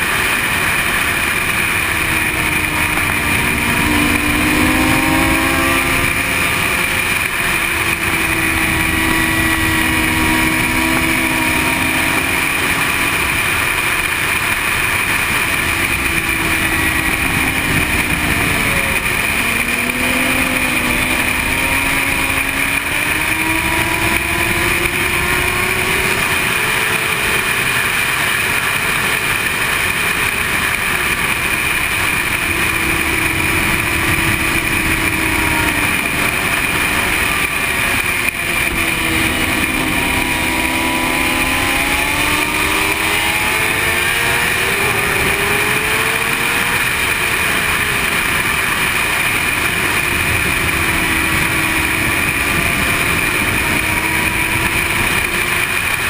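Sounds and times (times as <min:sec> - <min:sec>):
motorcycle engine revving: 0:00.0 - 0:56.0
wind rushing on camera: 0:00.0 - 0:56.0.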